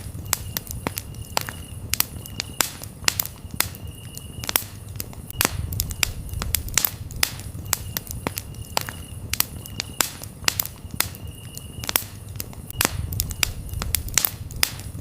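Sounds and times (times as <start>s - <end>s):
crickets chirping: 0.0s - 14.6s
campfire crackling and popping: 0.0s - 15.0s.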